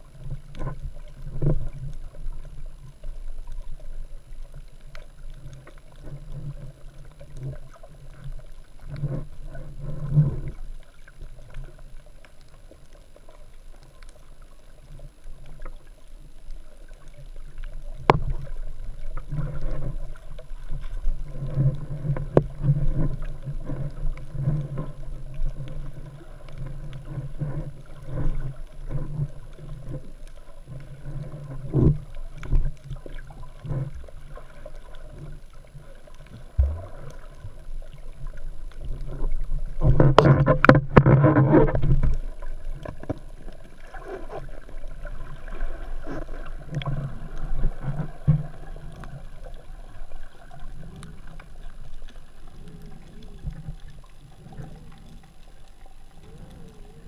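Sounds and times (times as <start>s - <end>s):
underwater rumble: 0.0s - 57.0s.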